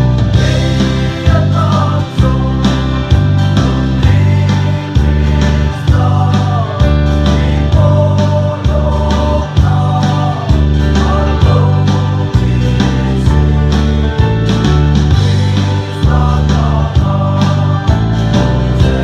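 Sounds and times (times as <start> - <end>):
deep bass accompaniment with beat: 0.0 - 19.0
men's group singing a hymn: 0.2 - 19.0.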